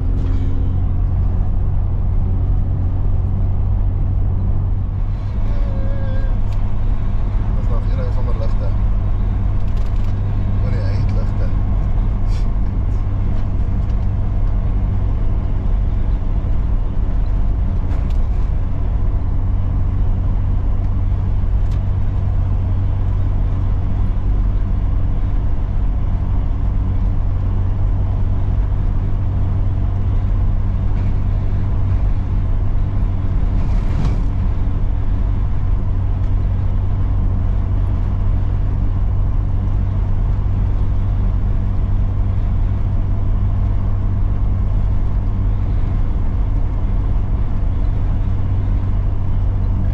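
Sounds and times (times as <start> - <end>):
engine and road rumble: 0.0 - 49.9.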